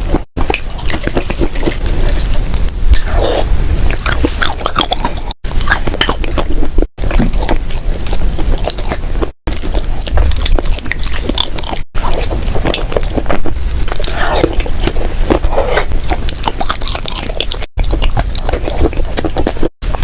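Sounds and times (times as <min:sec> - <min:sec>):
crunchy clay being chewed: 0:00.0 - 0:20.0.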